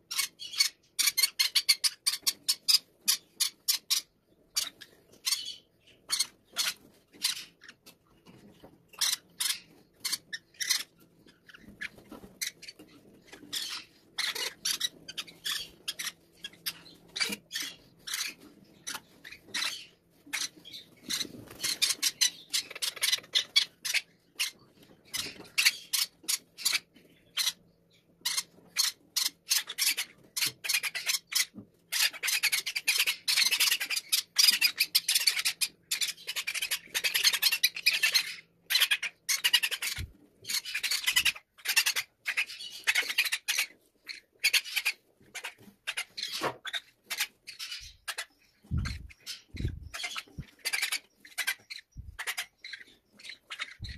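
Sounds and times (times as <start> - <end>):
parrot chicks begging calls: 0.0 - 53.9.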